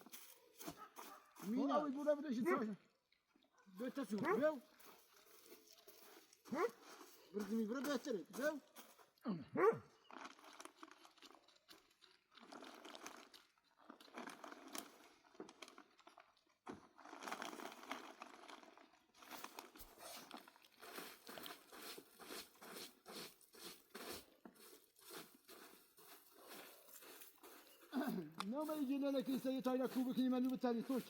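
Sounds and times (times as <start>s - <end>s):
crunching and rustling: 0.0s - 2.4s, 3.7s - 9.2s, 9.9s - 31.0s.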